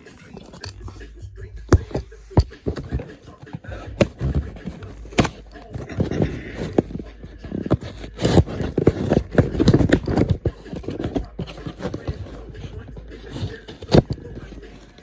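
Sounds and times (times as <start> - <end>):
knocks and clicks of handling parts: 0.0 - 15.0
scraping: 0.0 - 15.0.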